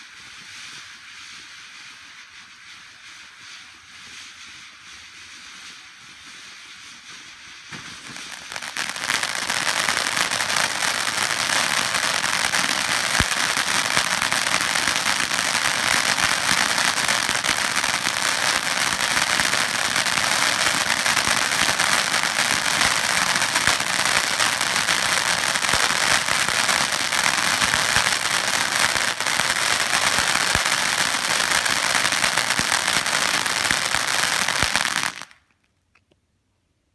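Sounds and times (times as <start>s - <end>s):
firework fountain crackling hiss: 0.0s - 35.6s.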